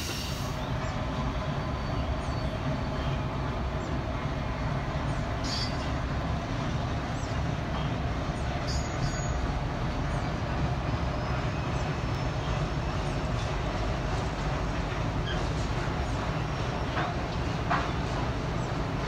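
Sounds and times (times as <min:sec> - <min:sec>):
distant locomotive rumble: 0:00.0 - 0:19.0.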